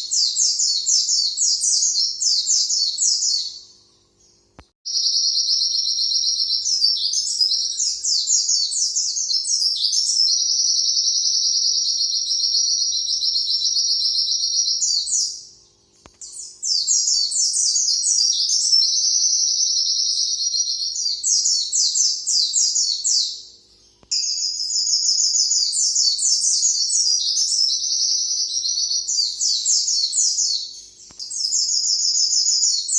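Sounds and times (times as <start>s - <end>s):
bird trilling song: 0.0s - 32.9s.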